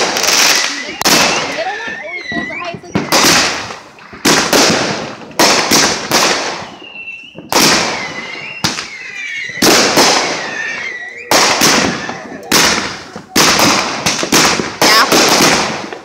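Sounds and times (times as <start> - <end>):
fireworks bangs with crackling: 0.0 - 16.0.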